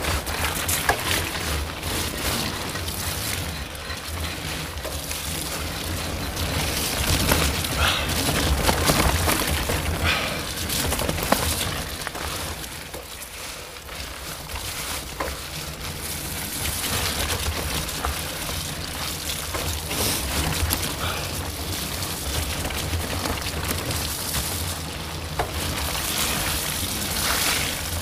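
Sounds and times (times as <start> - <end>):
bike knocks and rattles: 0.0 - 28.0
tyres hissing on wet gravel: 0.0 - 28.0.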